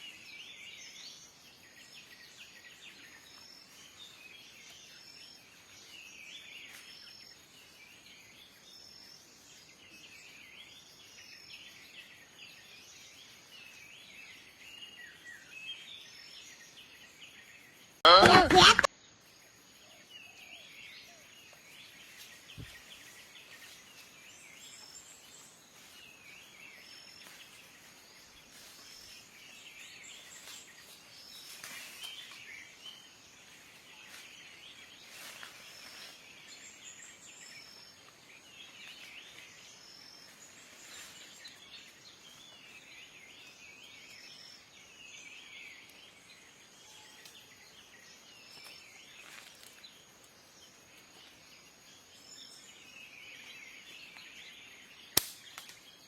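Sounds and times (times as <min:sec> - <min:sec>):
faint birds chirping: 0:00.0 - 0:56.0.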